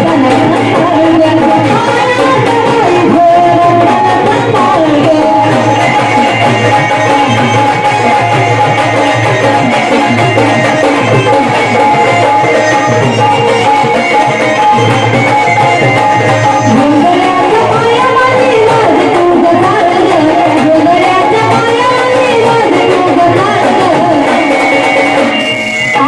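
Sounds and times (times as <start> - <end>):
hand drum rhythm: 0.0 - 26.0
wavering melody line: 0.0 - 26.0.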